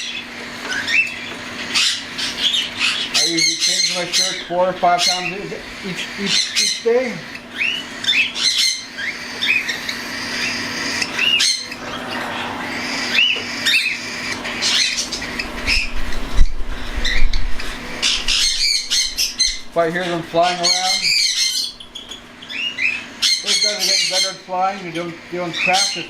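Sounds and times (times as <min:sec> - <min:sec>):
cockatiel chicks squawking: 0:00.0 - 0:26.0.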